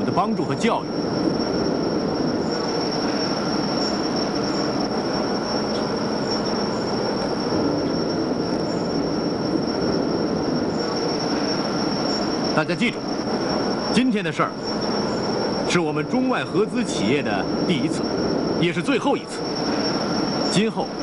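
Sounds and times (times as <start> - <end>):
high machinery whine: 0.0 - 21.0
machinery rumble: 0.0 - 21.0.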